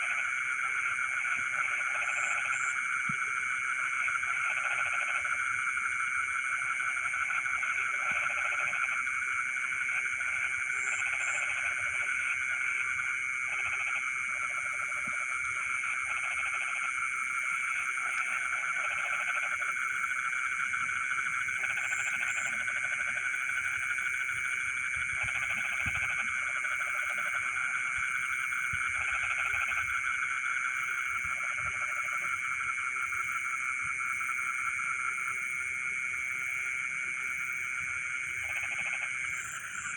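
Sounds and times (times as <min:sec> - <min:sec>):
frogs trilling in chorus: 0:00.0 - 0:39.9
low-pitched frog calling: 0:00.0 - 0:39.9.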